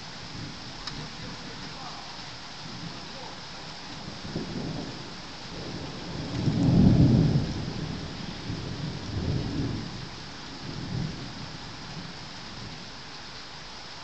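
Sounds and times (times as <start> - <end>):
thunder rumbling: 0.0 - 12.9
rain hiss: 0.0 - 14.0.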